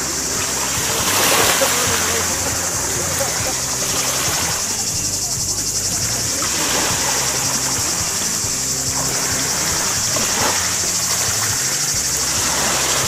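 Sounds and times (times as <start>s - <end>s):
waves lapping on pebbles: 0.0s - 5.3s, 6.0s - 13.0s
high-pitched hiss: 0.0s - 13.0s
swimmer splashing: 0.0s - 13.0s.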